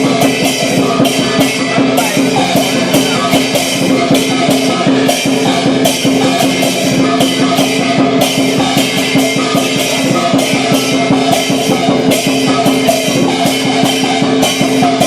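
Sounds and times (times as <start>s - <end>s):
big drum beaten rapidly: 0.0s - 15.0s
cymbals clashing: 0.0s - 15.0s.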